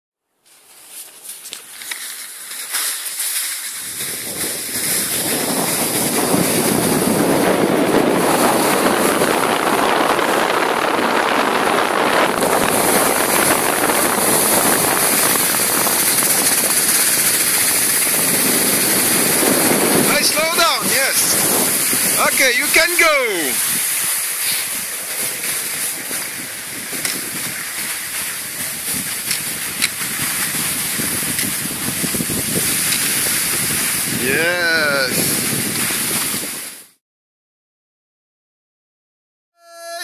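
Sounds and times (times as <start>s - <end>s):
skis sliding over snow: 0.4s - 37.0s
wind buffeting microphone: 3.8s - 36.8s.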